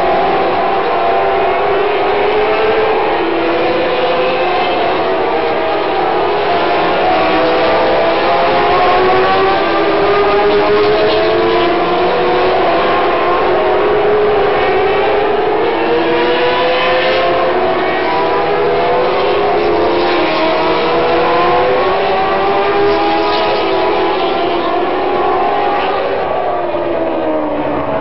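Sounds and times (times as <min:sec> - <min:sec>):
go-kart engines racing: 0:00.0 - 0:28.0.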